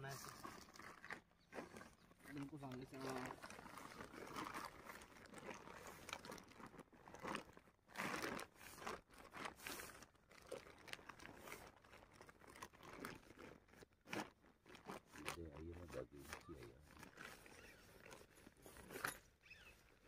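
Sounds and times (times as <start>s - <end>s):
tent fabric rustling and crinkling: 0.0s - 20.0s.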